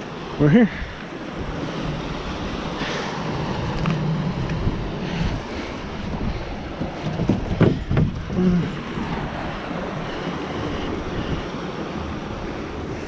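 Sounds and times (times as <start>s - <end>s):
waves washing: 0.0s - 13.0s
wind buffeting microphone: 0.0s - 13.0s.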